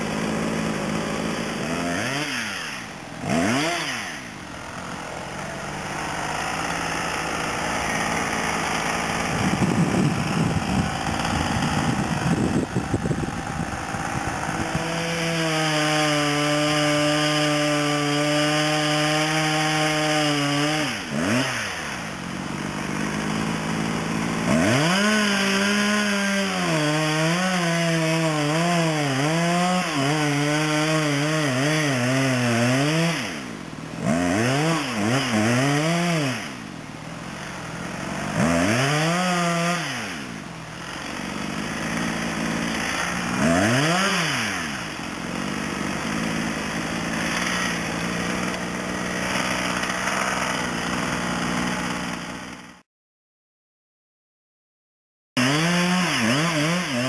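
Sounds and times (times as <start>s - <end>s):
chainsaw cutting wood: 0.0s - 52.9s, 55.4s - 57.0s.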